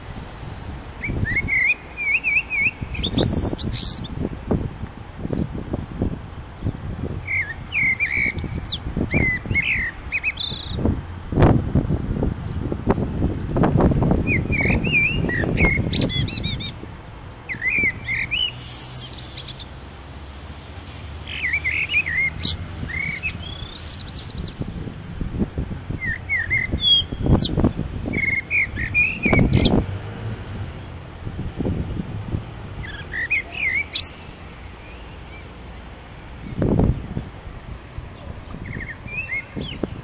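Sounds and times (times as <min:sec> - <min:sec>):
songbird singing: 0:01.0 - 0:04.6, 0:05.2 - 0:24.8, 0:25.6 - 0:40.0.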